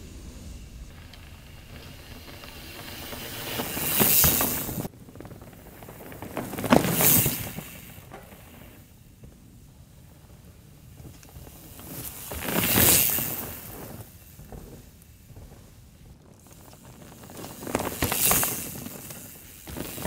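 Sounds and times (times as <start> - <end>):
bike tyres crunching over dirt: 0.0 - 20.0.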